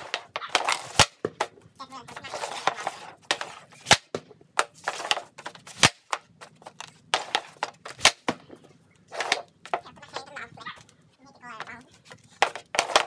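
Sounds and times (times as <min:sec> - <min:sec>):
hockey stick scraping puck: 0:00.0 - 0:08.4, 0:09.0 - 0:10.4, 0:11.6 - 0:13.0.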